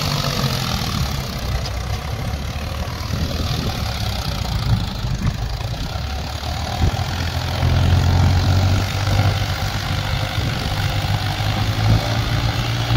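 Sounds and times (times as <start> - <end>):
tractor diesel engine under load: 0.0 - 12.9.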